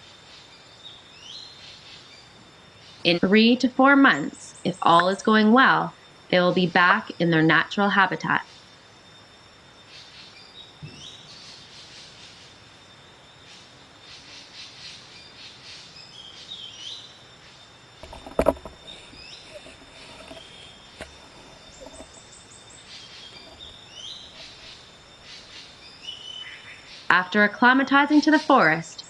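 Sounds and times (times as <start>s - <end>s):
forest birds chirping: 0.0s - 29.0s.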